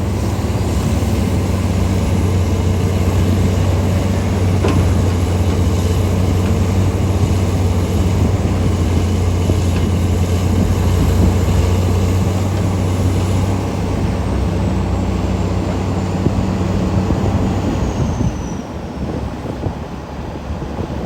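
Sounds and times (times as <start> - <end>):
diesel machinery engine drone: 0.0 - 21.0.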